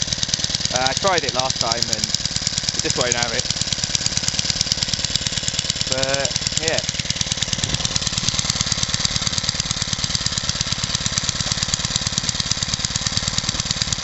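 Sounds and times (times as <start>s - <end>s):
stationary engine running: 0.0s - 14.0s.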